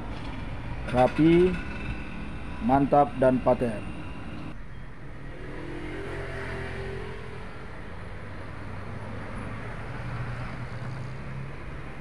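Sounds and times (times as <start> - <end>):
background traffic noise: 0.0 - 12.0.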